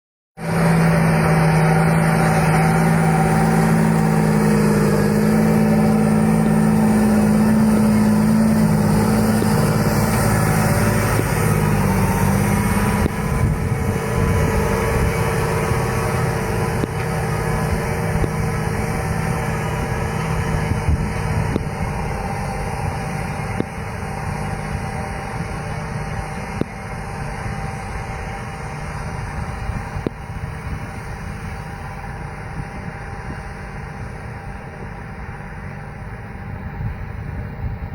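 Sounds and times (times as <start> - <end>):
tractor diesel engine running: 0.4 - 37.9.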